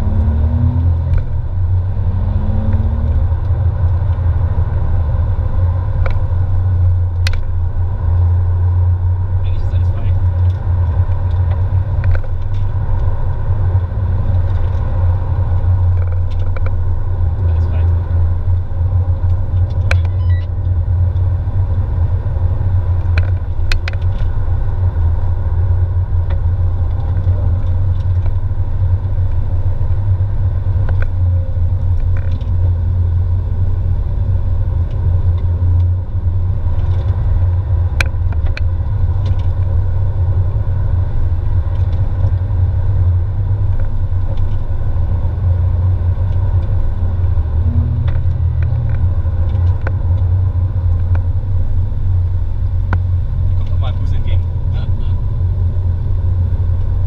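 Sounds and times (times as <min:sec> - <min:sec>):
car engine rumble from inside: 0:00.0 - 0:57.0
tyres on asphalt: 0:00.0 - 0:57.0.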